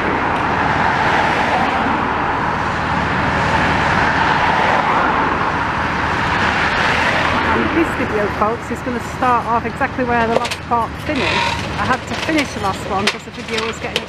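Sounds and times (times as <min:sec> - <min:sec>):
diesel excavator engine humming: 0:00.0 - 0:14.0.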